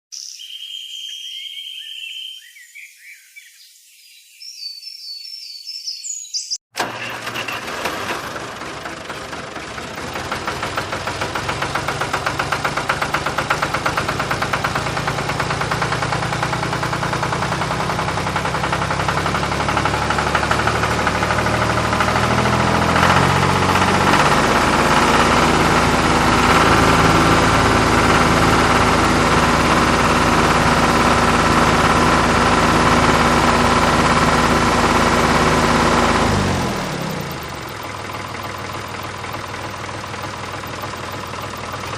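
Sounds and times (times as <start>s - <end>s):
vehicle engine chugging: 6.8s - 41.9s.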